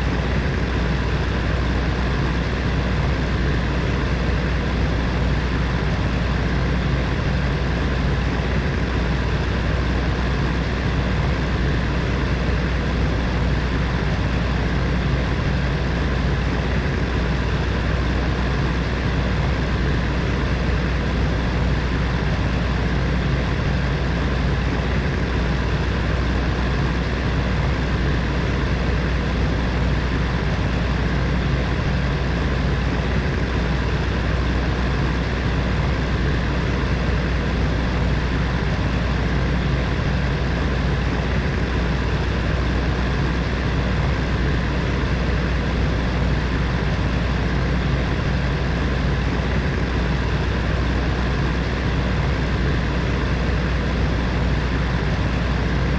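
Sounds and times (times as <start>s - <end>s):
heater fan whooshing hum: 0.0s - 55.9s.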